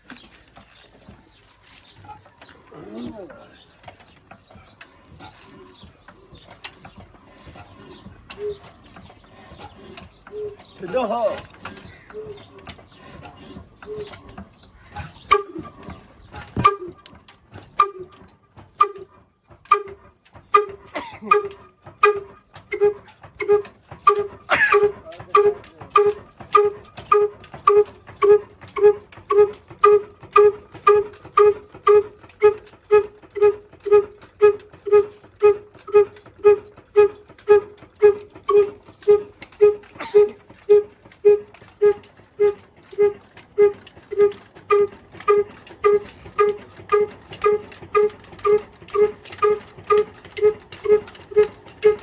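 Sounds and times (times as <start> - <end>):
diesel engine puffing: 0.2 - 52.0.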